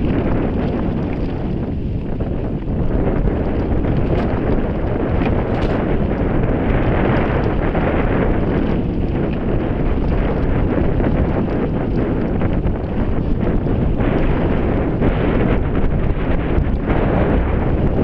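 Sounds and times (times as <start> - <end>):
bike rattles and clicks: 0.0 - 18.0
bike tyres on dirt: 0.0 - 18.0
wind buffeting microphone: 0.0 - 18.0.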